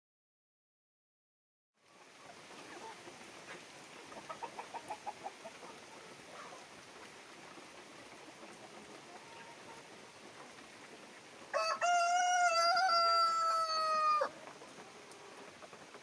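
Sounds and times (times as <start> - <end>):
faint steady hiss: 1.8 - 16.0
chickens clucking: 1.9 - 16.0.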